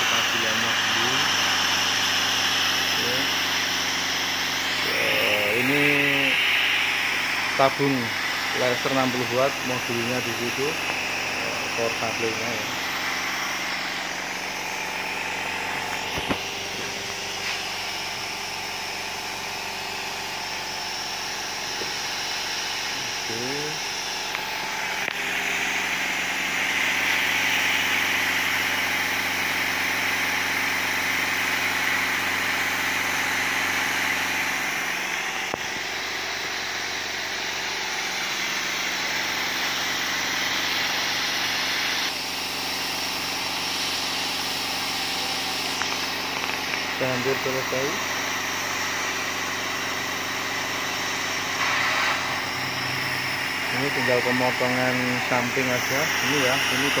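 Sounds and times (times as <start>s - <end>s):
machine motors humming: 0.0s - 57.0s.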